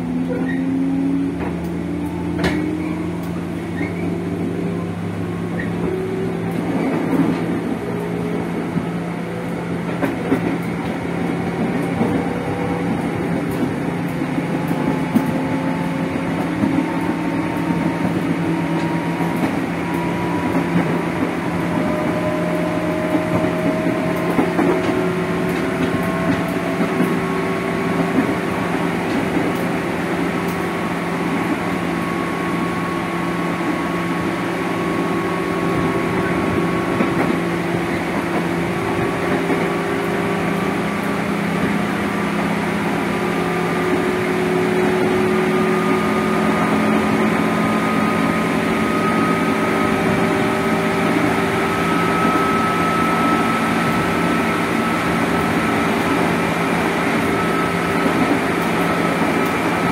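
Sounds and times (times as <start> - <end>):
train traction motor whine: 0.0 - 59.9
wheels rumbling on rails: 0.0 - 59.9.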